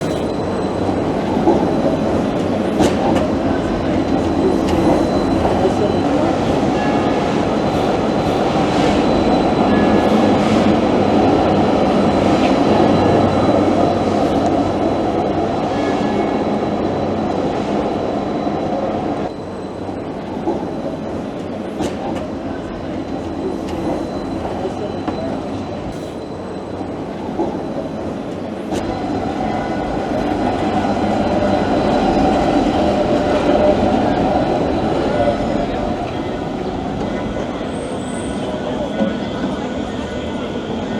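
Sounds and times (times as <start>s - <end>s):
tram wheels rumbling on track: 0.0s - 40.9s.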